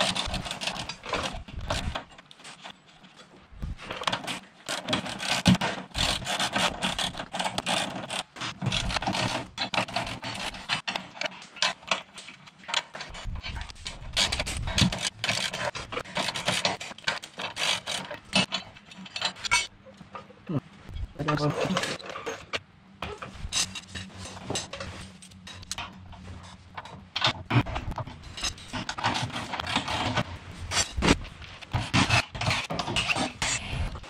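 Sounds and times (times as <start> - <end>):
metal scraping: 0.0 - 34.0.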